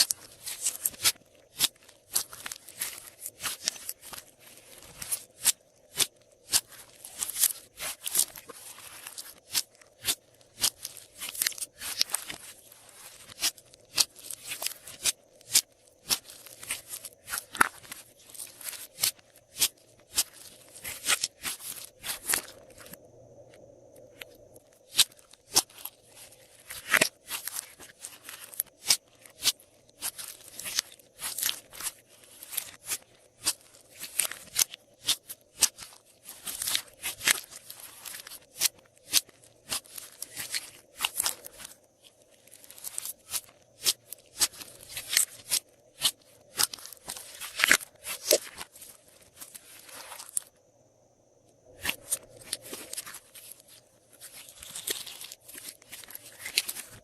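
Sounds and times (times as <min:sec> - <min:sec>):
hands kneading wet slime: 0:00.0 - 0:23.0, 0:24.9 - 0:50.5.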